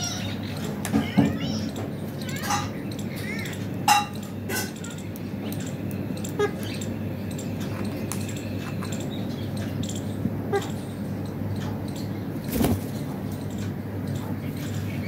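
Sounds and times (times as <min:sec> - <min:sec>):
parakeet calls: 0:00.0 - 0:15.0
steady low hum: 0:00.0 - 0:15.0.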